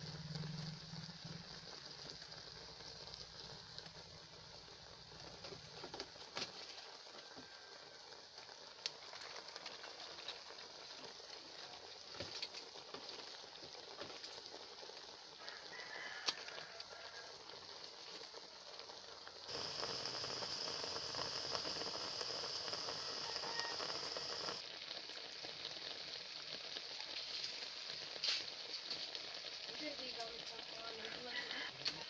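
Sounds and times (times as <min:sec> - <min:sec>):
pot simmering with crackles: 0:00.0 - 0:32.0
steady sizzling hiss: 0:00.0 - 0:32.0.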